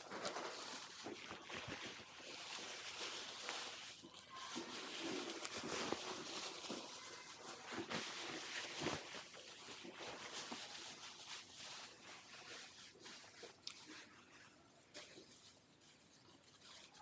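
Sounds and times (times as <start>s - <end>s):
plastic crinkling and rustling: 0.0s - 17.0s.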